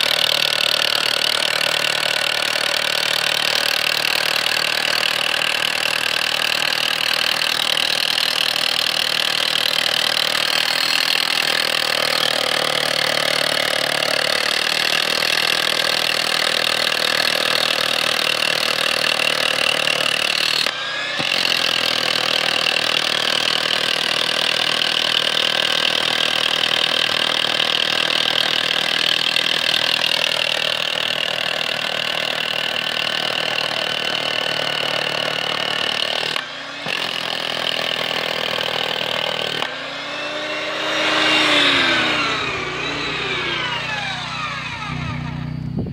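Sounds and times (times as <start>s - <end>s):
rotary hammer drill into stone: 0.0s - 45.9s.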